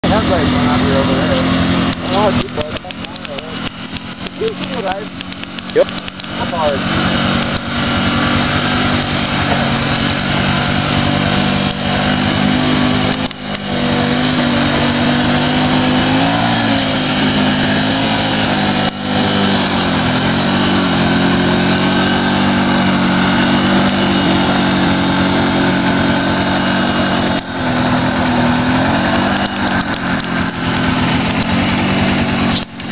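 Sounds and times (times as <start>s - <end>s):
atv engine running hard: 0.0s - 32.9s
churning through mud and water: 0.0s - 32.9s.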